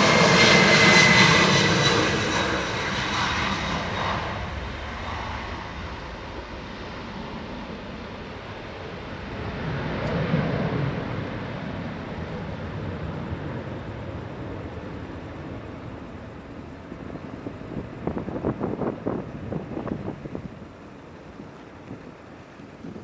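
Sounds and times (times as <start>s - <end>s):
jet engines rumbling: 0.0s - 23.0s
wind buffeting microphone: 0.0s - 23.0s.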